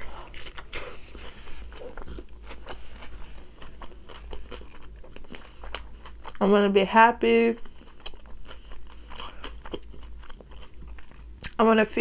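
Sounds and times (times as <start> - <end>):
person chewing crunchy food: 0.0 - 6.5, 7.6 - 11.6.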